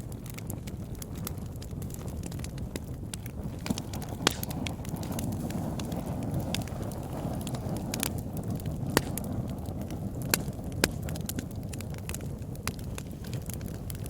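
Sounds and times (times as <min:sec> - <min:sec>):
sharp fire pops: 0:00.0 - 0:14.0
wood fire crackling: 0:00.0 - 0:14.0.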